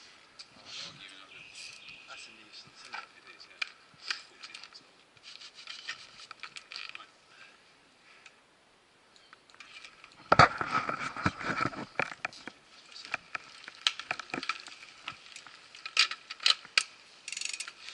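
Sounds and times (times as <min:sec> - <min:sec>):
bikes clicking knocking and rattling: 0:01.1 - 0:07.1, 0:09.2 - 0:17.9.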